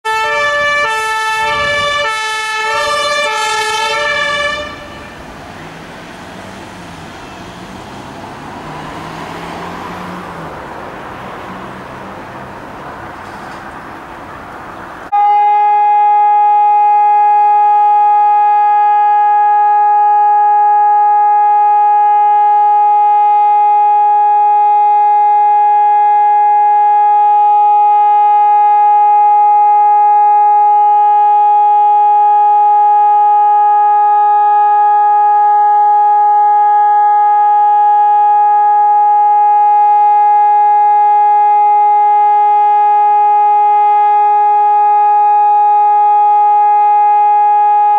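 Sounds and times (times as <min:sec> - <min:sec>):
electronic siren steady tone: 0:00.0 - 0:12.5, 0:15.1 - 0:47.9.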